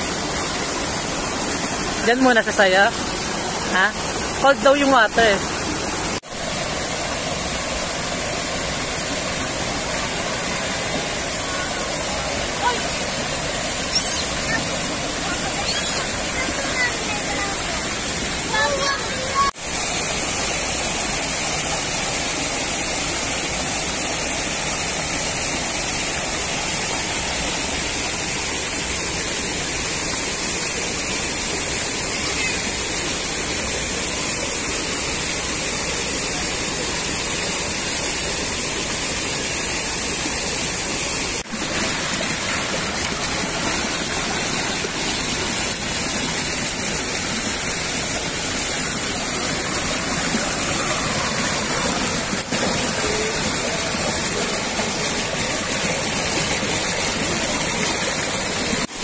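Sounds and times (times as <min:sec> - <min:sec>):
mountain stream and waterfall rushing: 0:00.0 - 0:59.0.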